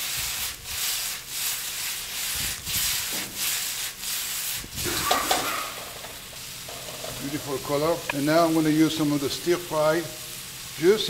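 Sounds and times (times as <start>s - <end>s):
food swishing across pan: 0.0s - 11.0s
vegetables sizzling in a wok: 0.0s - 11.0s.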